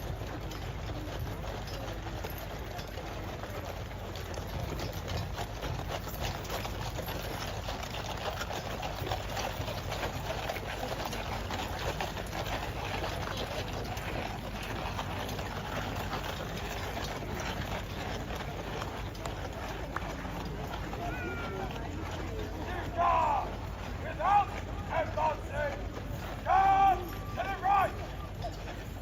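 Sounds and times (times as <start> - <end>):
crowd noise: 0.0 - 29.0
traffic: 0.0 - 29.0.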